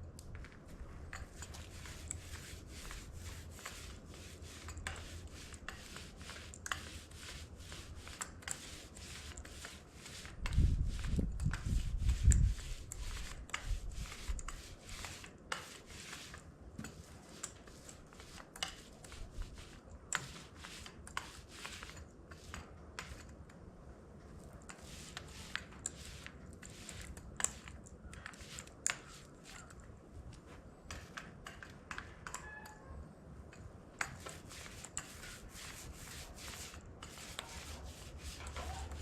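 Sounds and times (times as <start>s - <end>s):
paint roller sticky clicks: 1.2s - 23.5s, 24.6s - 29.8s, 34.0s - 39.0s.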